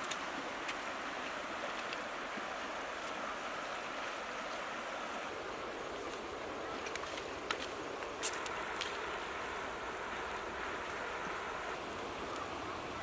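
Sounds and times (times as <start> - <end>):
river rippling over stones: 0.0 - 13.0.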